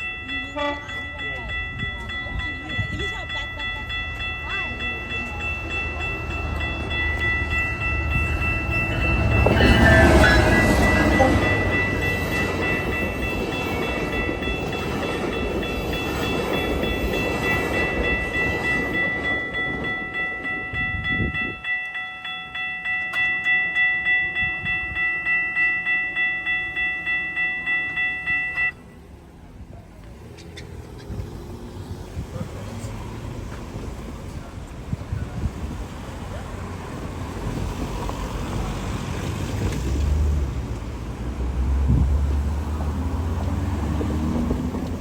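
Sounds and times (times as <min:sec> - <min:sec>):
crossing warning bells: 0:00.0 - 0:45.0
train rumbling past: 0:00.0 - 0:45.0.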